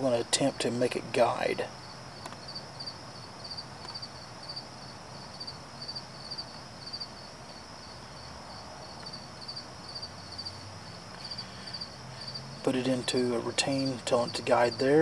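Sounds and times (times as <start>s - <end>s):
crickets chirping: 0.0s - 15.0s
high insect trill: 0.0s - 15.0s.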